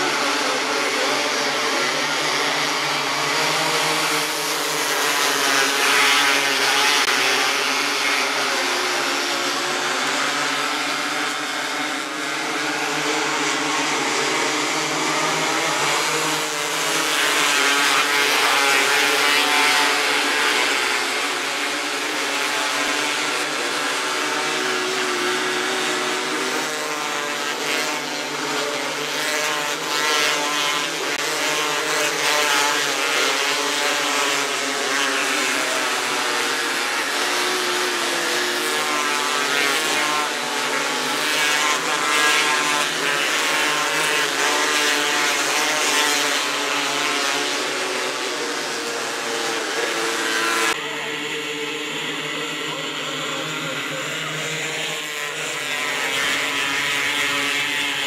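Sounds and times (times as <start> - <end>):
racing car engines whining: 0.0 - 58.0.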